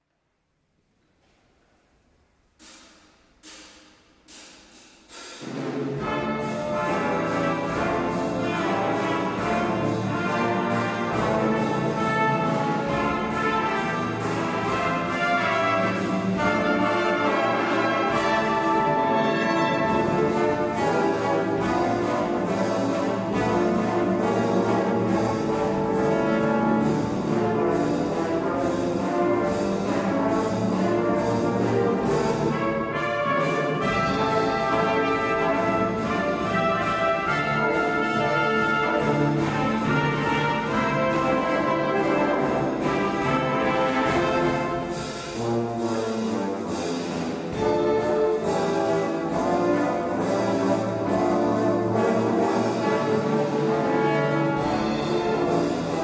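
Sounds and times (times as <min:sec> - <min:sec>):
brass ensemble playing: 0:05.1 - 0:56.0.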